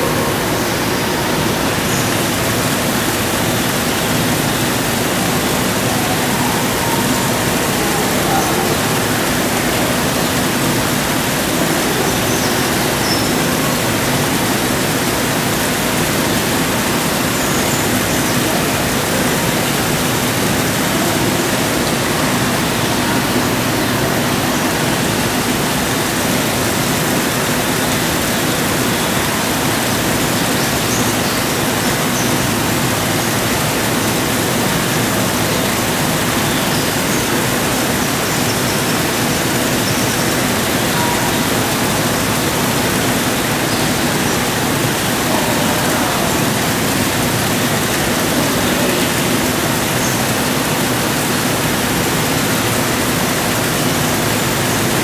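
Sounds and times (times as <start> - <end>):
water falling: 0.0 - 55.0.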